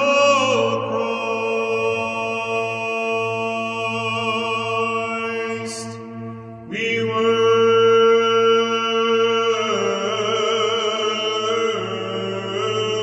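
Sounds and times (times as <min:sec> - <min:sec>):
chant singing: 0:00.0 - 0:13.0
low drone: 0:00.0 - 0:13.0.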